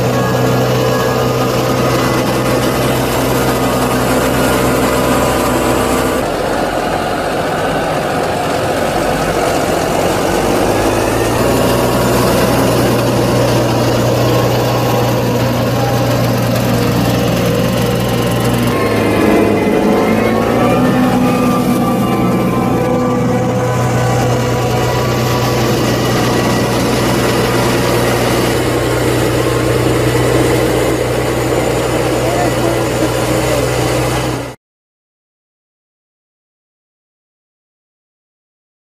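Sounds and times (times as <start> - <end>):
tractor engine running: 0.0 - 34.6.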